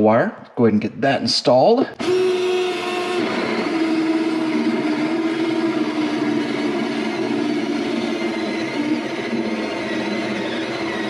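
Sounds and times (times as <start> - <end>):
drill with hole saw whining: 2.0 - 11.0.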